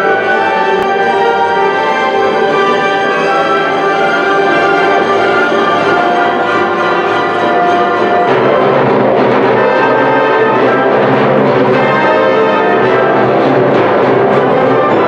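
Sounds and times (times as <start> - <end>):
orchestra playing classical music: 0.0 - 15.0.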